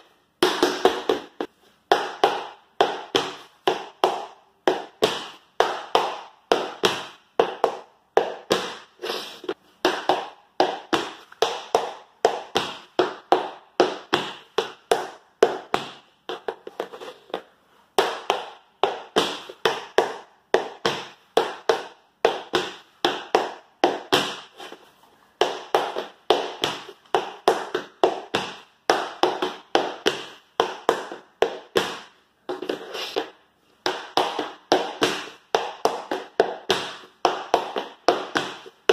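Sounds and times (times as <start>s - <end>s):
tap shoes on wooden floor: 0.4s - 38.9s.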